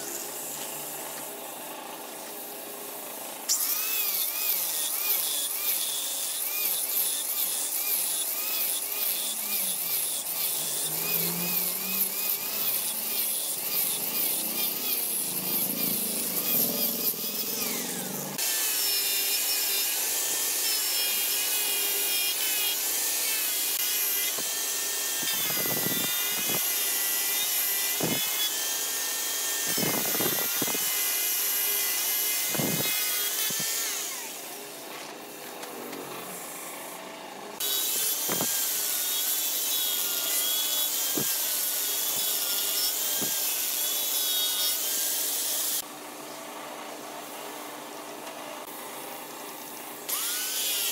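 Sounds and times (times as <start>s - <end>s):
angle grinder whine: 0.0s - 45.9s.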